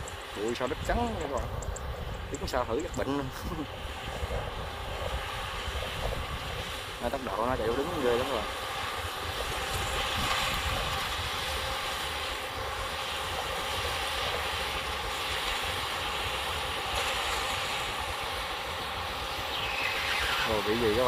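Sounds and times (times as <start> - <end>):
combine harvester engine drone: 0.0 - 21.0.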